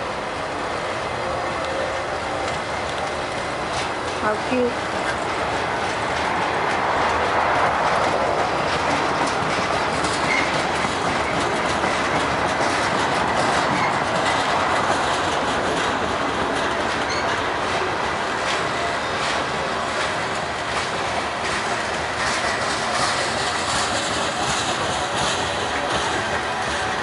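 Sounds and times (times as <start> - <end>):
freight train cars rolling: 0.0 - 27.0
wheels clicking over rail joints: 1.5 - 27.0.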